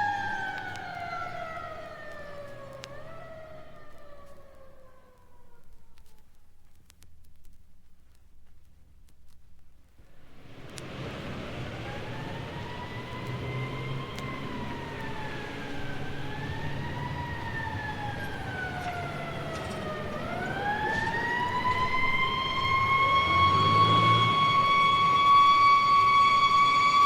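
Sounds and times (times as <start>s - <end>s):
siren wailing: 0.0s - 6.2s, 10.9s - 27.0s
low engine rumble: 0.0s - 27.0s.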